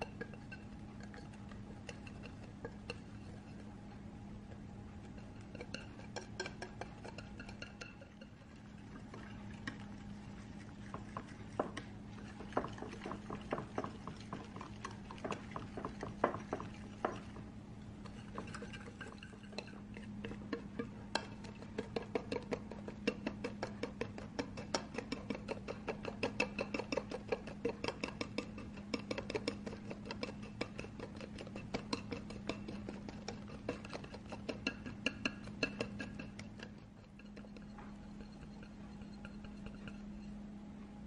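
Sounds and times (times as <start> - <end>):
whisk beating in ceramic bowl: 0.0 - 40.4.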